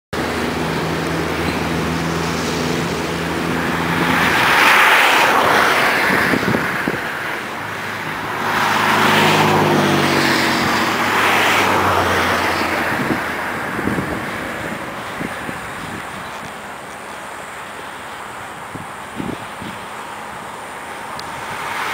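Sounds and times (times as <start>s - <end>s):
engines of passing machines: 0.2s - 21.9s
loud rushing swells: 0.2s - 21.9s.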